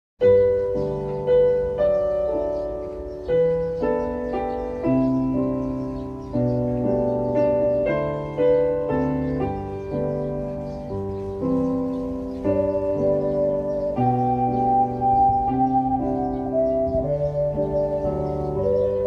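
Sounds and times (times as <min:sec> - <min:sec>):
slow piano chords: 0:00.2 - 0:19.0.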